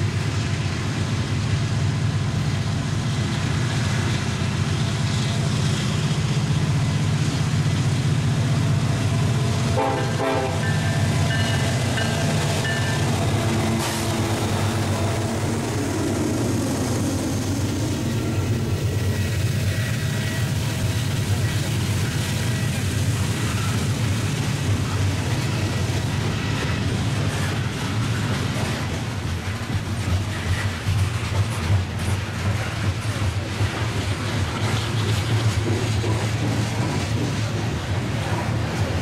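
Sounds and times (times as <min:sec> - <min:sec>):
train wheels rumbling on rail: 0:00.0 - 0:39.0
locomotive higher tones: 0:01.6 - 0:39.0.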